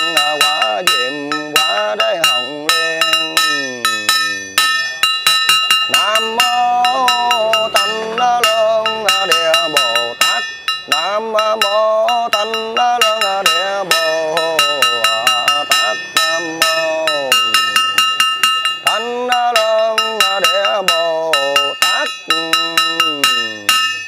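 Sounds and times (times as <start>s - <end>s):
monk chanting: 0.0s - 5.0s, 5.9s - 24.0s
small bowl bell ringing: 0.0s - 24.0s.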